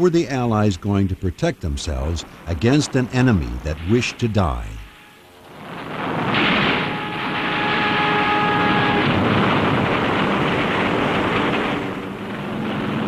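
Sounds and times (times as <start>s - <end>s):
aircraft engine drone: 0.0s - 13.0s
faint whine: 0.0s - 13.0s.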